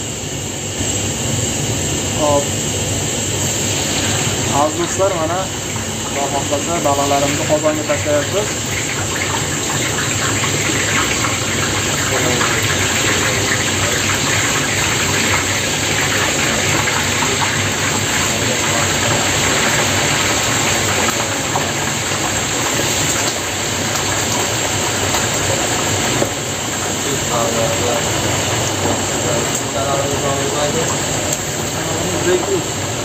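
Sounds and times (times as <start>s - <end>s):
fish deep-frying in oil: 0.0s - 33.0s
oil crackling: 3.5s - 33.0s.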